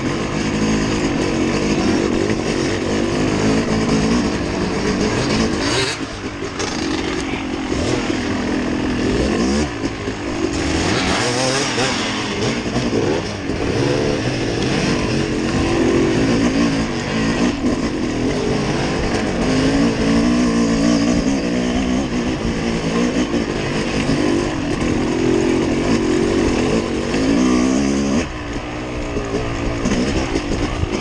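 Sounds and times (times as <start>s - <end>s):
vehicle engine running under load: 0.0s - 31.0s.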